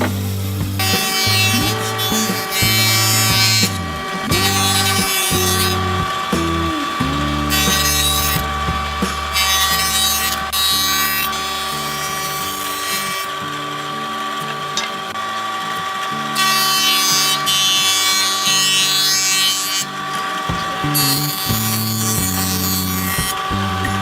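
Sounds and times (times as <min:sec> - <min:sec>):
steady hum: 0:00.0 - 0:16.4, 0:19.9 - 0:24.0
power tool running: 0:00.0 - 0:24.0.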